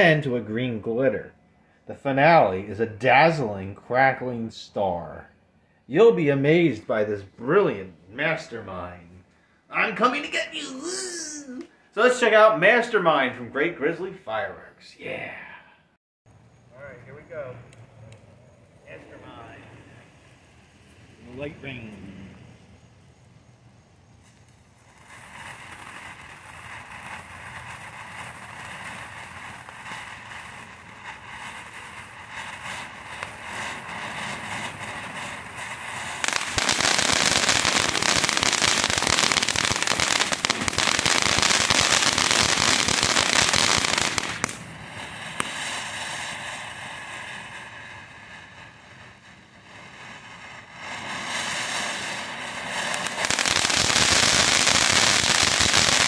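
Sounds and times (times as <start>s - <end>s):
firework crackling: 0.0s - 15.6s, 16.3s - 56.0s
firework fountain hissing: 0.0s - 15.6s, 16.3s - 56.0s.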